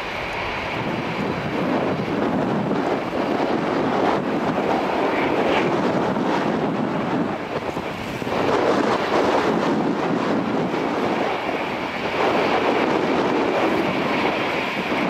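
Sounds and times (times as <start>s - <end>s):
jet engines at taxi power: 0.0s - 15.0s
wind buffeting microphone: 0.0s - 15.0s.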